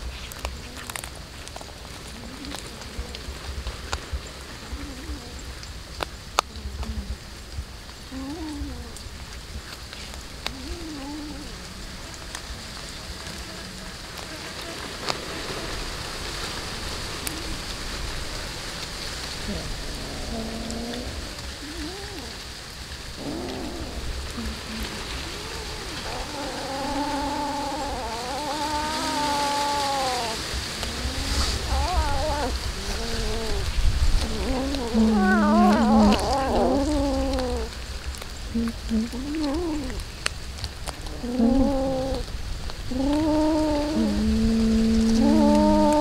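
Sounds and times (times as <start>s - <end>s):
cats growling and yowling: 0.0s - 5.7s, 8.0s - 9.3s, 9.9s - 13.4s, 14.1s - 46.0s
crackle of chewing: 0.0s - 46.0s
dry leaves crackling: 0.0s - 46.0s.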